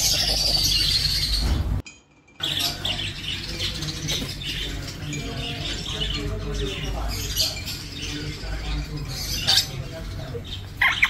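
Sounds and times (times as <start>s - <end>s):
budgerigars chirping and warbling: 0.0s - 1.6s, 2.4s - 11.0s.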